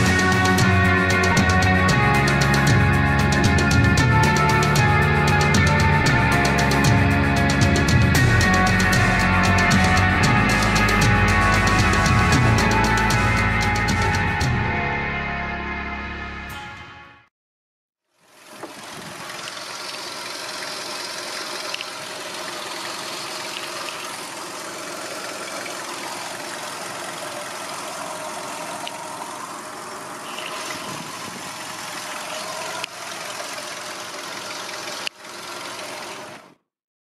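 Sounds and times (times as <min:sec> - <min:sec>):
car engine idling: 0:00.0 - 0:14.2, 0:18.8 - 0:36.6.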